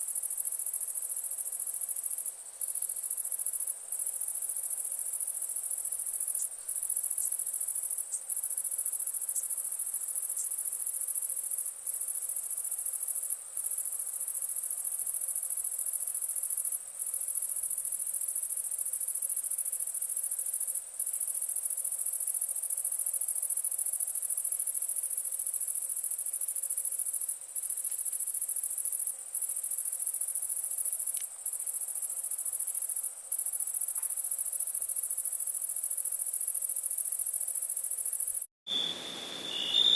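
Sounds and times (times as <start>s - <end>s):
night insects chorus: 0.1s - 39.9s.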